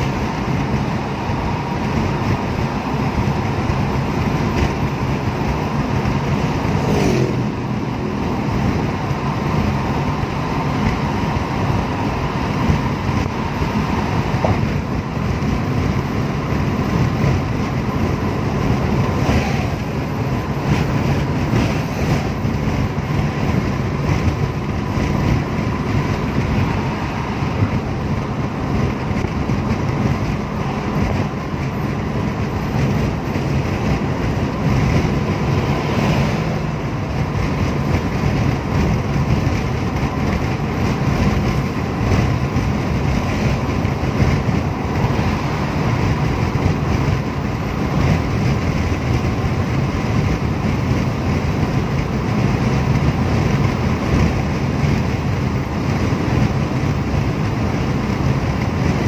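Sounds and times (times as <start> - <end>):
engine hum: 0.0 - 59.0
wind noise: 0.0 - 59.0.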